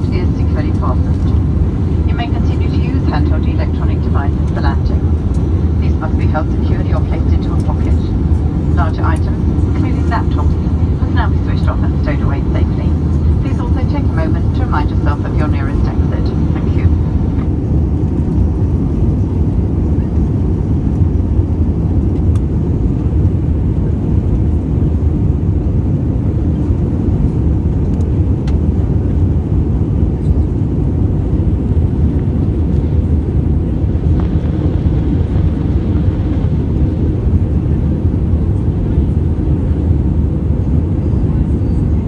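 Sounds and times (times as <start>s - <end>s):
aircraft cabin engine rumble: 0.0s - 42.0s.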